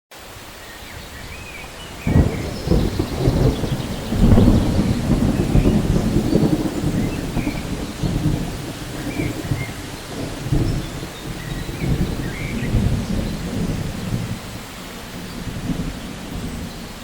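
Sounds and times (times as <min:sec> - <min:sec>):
steady rain falling: 0:00.1 - 0:17.0
thunder rumbling: 0:01.1 - 0:17.0.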